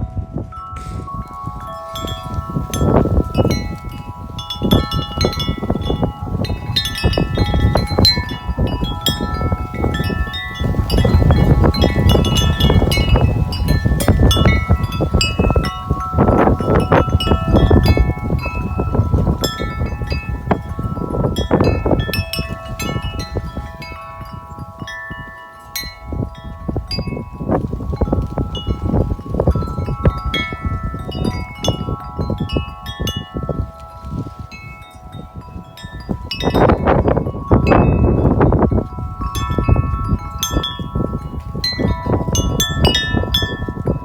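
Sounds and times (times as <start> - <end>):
wind chime ringing: 0.0 - 44.0
wind rumbling on microphone: 0.0 - 44.0.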